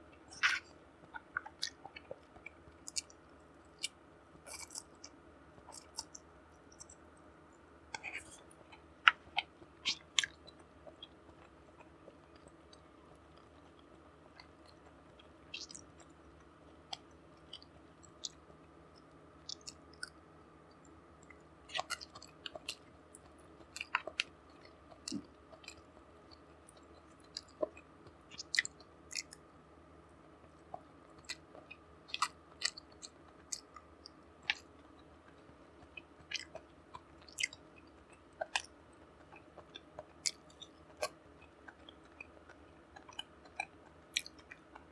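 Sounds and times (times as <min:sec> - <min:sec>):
chewing and mouth sounds: 0:00.3 - 0:07.2, 0:07.9 - 0:29.4, 0:30.5 - 0:44.9.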